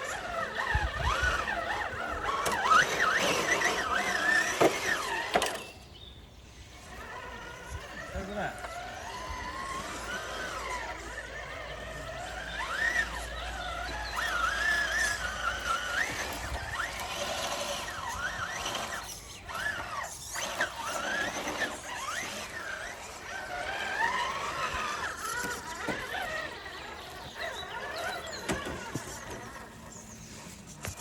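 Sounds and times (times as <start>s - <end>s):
electric motor whine: 0.0s - 31.0s.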